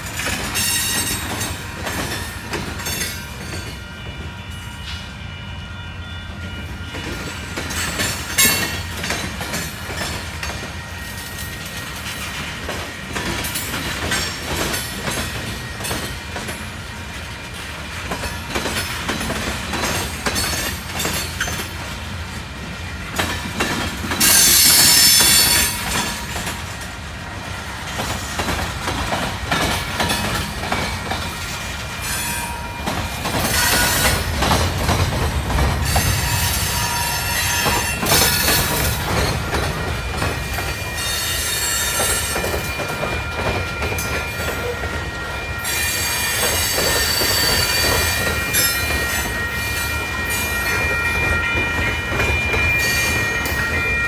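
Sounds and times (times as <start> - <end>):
train wheels clattering over rails: 0.0 - 3.8, 6.8 - 54.0.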